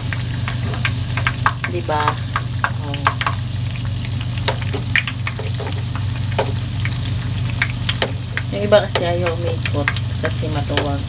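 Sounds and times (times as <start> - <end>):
oil crackling and popping: 0.0 - 11.0
steady low hum: 0.0 - 11.0.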